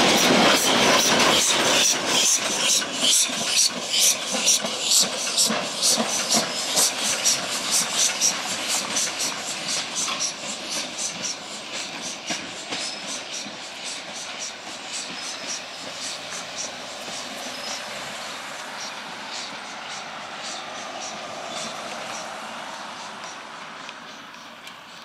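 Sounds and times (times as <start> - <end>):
steam hissing: 0.0 - 25.0
steam locomotive chuffing: 0.0 - 25.0.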